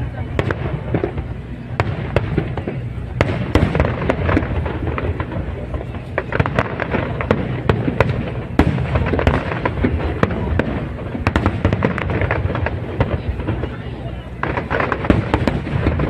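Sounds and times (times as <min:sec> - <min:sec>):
fireworks booming and crackling: 0:00.0 - 0:16.0.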